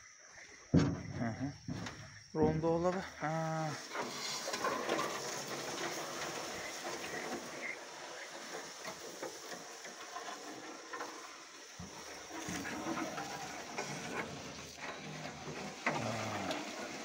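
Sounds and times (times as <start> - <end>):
reeds rustling and crackling: 1.7 - 17.0.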